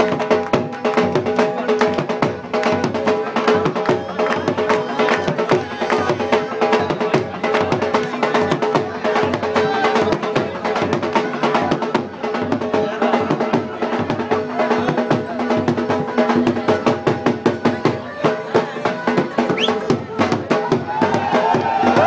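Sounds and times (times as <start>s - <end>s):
fast dhol drumming: 0.0s - 22.0s.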